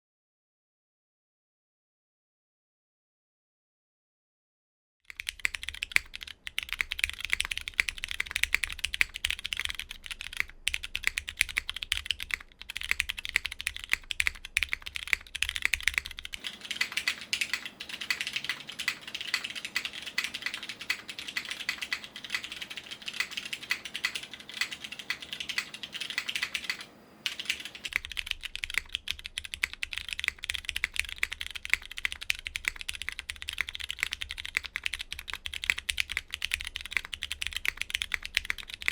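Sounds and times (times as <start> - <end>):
mechanical keyboard typing: 5.1 - 38.9.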